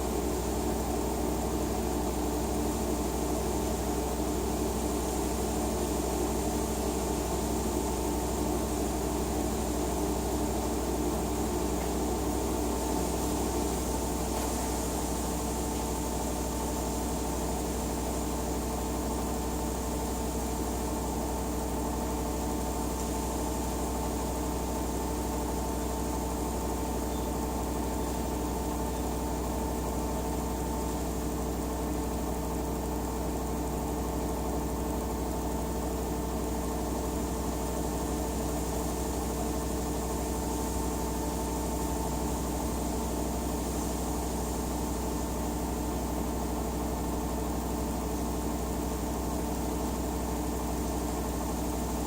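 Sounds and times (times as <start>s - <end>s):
washing machine motor hum: 0.0s - 52.0s.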